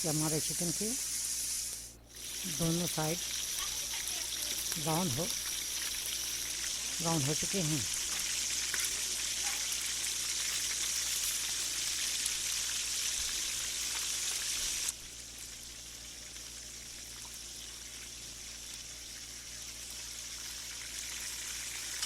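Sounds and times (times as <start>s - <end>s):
chicken sizzling in fat: 0.0s - 22.0s.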